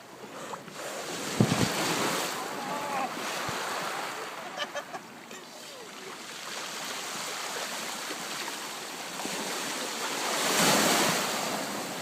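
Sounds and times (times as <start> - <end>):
wave breaking: 0.8 - 8.6, 9.2 - 12.0
sea surf washing onto beach: 0.8 - 12.0.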